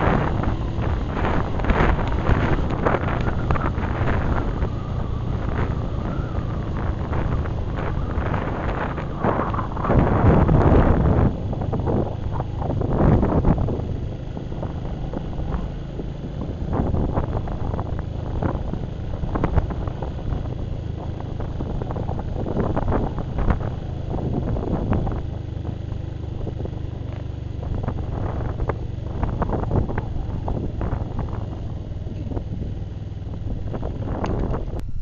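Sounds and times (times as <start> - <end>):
motorcycle engine running: 0.0 - 35.0
wind buffeting microphone: 0.0 - 35.0.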